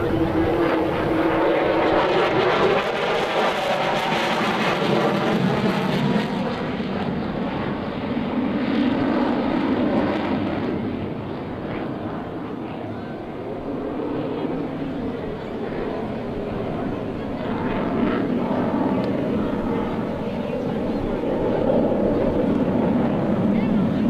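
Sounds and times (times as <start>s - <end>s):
fighter jet engine roar: 0.0s - 24.0s.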